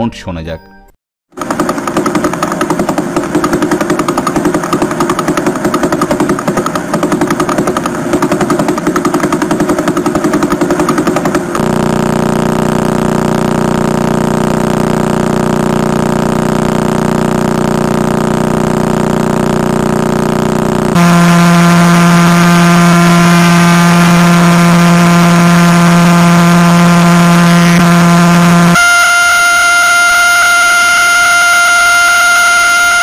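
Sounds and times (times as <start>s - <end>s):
rapid radio pulses: 1.3s - 33.0s
buzzing hum of fast pulses: 1.4s - 33.0s.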